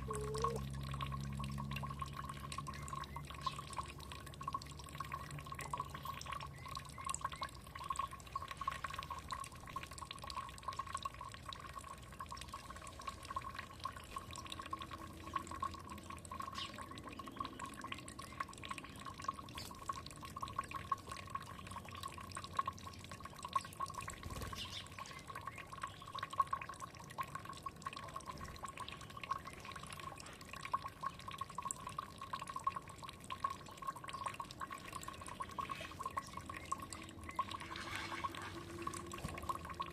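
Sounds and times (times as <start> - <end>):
water gurgling: 0.0 - 39.9
water trickling and dripping: 0.0 - 39.9.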